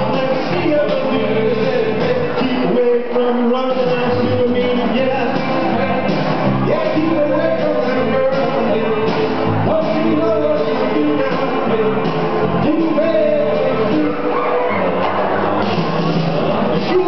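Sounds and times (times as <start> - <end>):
men singing into microphones: 0.0 - 15.8
amplified backing music: 0.0 - 17.0.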